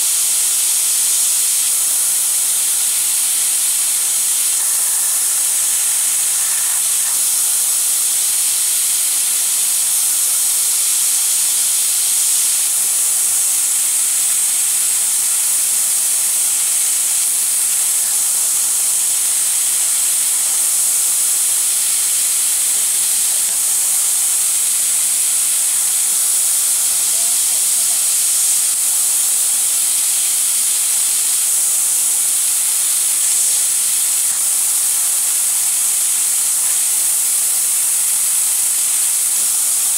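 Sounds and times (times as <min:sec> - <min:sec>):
laser cutter high-pitched hiss: 0:00.0 - 0:39.9.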